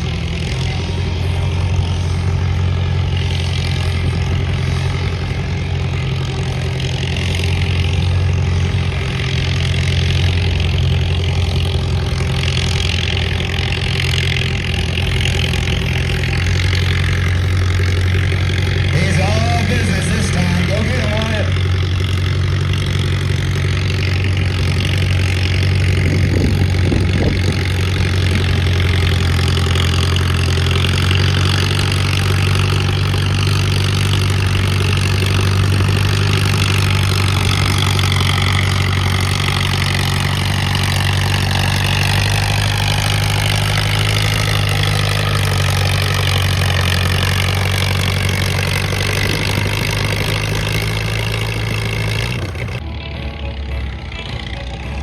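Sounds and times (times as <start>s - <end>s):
high engine whine: 0.0s - 55.0s
tractor engine droning under load: 0.0s - 55.0s.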